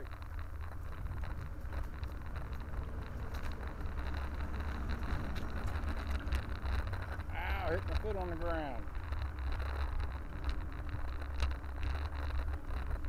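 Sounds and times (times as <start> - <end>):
bicycle tyre noise: 0.0 - 13.0
bike rattles and clicks: 0.0 - 13.0
wind rumbling on microphone: 0.0 - 13.0.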